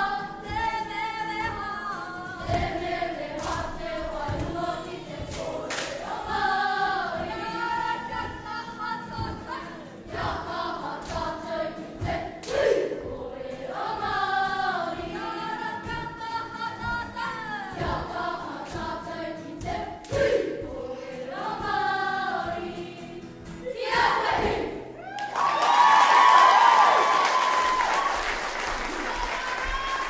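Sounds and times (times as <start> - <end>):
children singing together: 0.0 - 25.0.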